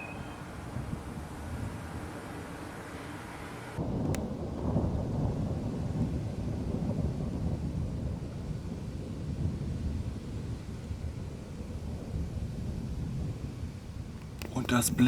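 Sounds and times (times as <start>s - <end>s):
rolling thunder: 0.0s - 2.7s, 3.8s - 15.0s.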